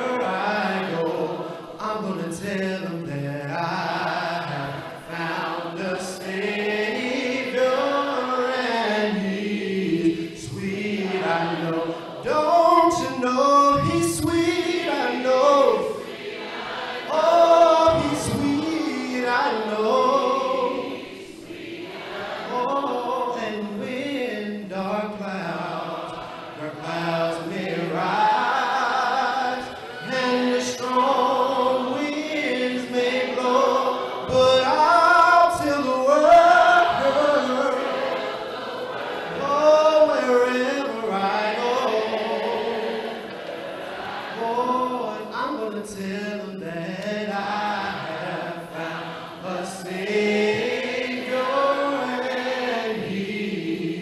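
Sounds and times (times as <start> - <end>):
man singing gospel: 0.0 - 16.2, 17.0 - 21.6, 22.4 - 38.3, 39.2 - 43.2, 44.3 - 54.0.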